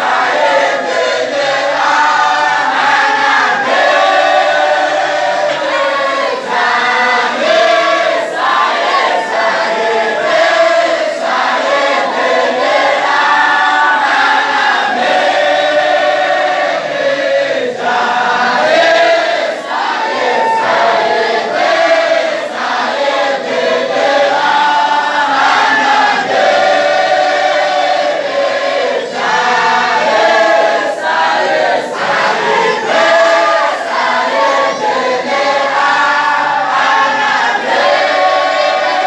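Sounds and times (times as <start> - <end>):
men and boys chanting in unison: 0.0 - 39.0.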